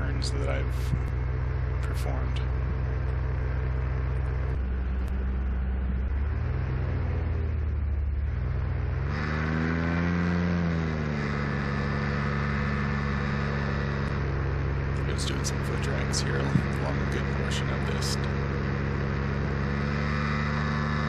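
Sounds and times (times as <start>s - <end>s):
paramotor engine and propeller: 0.0s - 21.0s.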